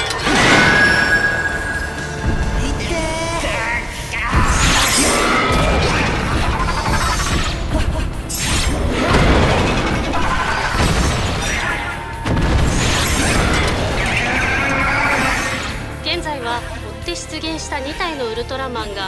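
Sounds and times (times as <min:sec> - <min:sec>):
heavy hits and crashes: 0:00.0 - 0:15.8
battle music: 0:00.0 - 0:19.0.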